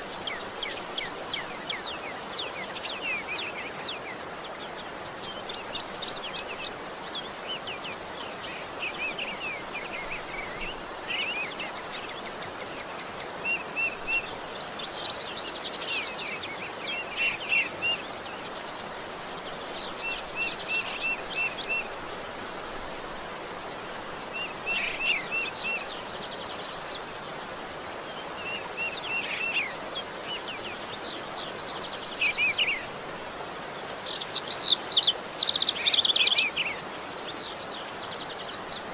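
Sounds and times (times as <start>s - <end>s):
outdoor background hiss: 0.0s - 38.9s
songbirds chirping and trilling: 0.0s - 38.9s.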